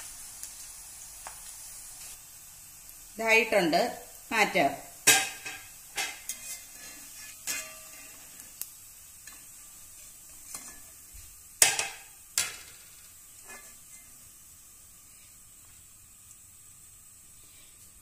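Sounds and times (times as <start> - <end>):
oil sizzling faintly: 0.0 - 18.0.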